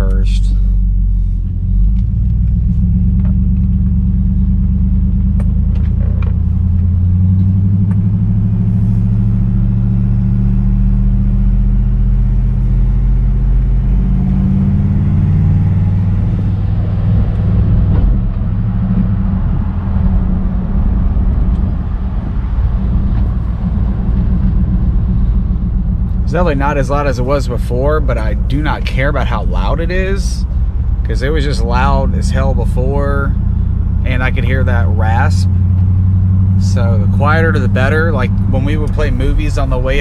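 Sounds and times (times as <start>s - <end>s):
road noise: 0.0s - 40.0s
truck engine low drone: 0.0s - 40.0s.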